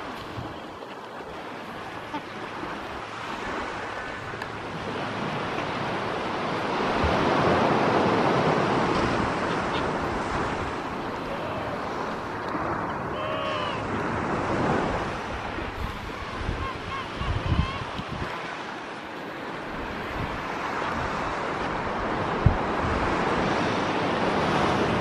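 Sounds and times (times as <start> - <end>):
surf on a beach: 0.0 - 25.0
wind: 0.0 - 25.0.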